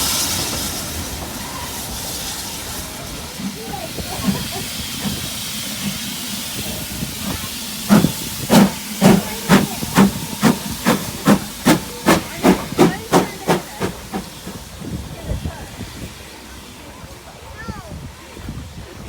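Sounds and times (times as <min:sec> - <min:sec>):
locomotive exhaust chuffs: 0:00.0 - 0:16.8
steam locomotive hissing: 0:00.0 - 0:19.0.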